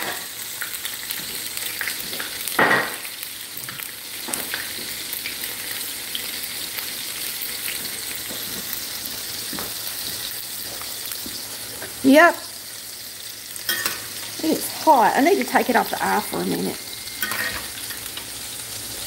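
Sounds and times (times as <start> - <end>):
deep-frying sizzle with pops: 0.0 - 19.0.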